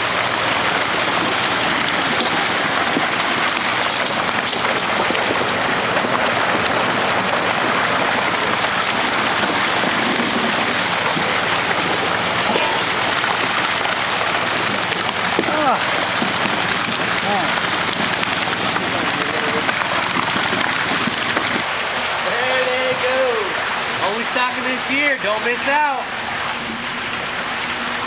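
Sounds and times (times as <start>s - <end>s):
water rushing and splashing: 0.0s - 28.0s.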